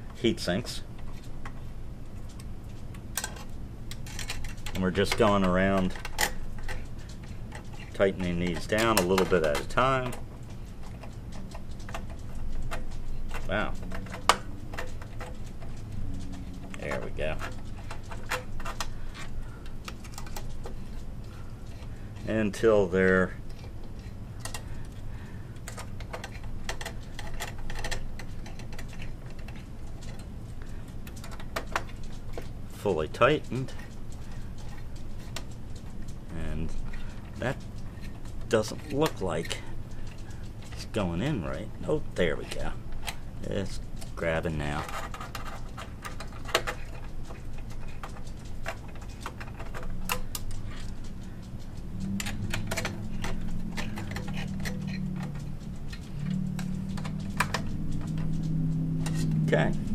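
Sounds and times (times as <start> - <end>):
low hum: 0.0 - 59.9
metal clicks and taps: 1.0 - 41.0, 41.6 - 59.9.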